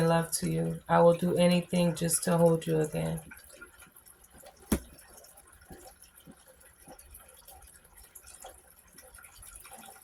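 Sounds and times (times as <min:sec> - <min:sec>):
faint dripping: 0:00.0 - 0:10.0.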